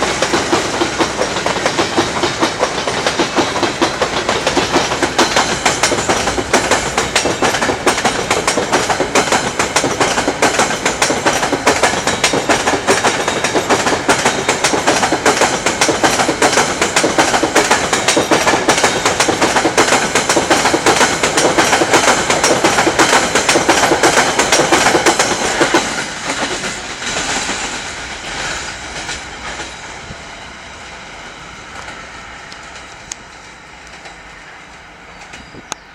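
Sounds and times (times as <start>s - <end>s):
train wheels clattering over rail joints: 0.0s - 31.0s, 31.6s - 35.8s.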